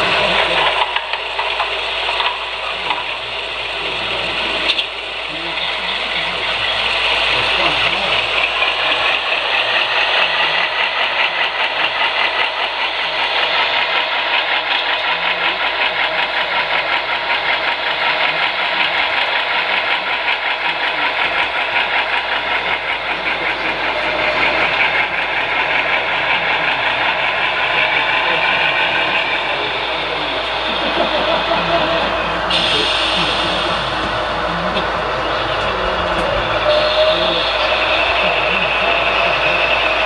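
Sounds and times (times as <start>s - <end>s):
model train clattering on track: 0.0s - 3.3s, 6.2s - 40.0s.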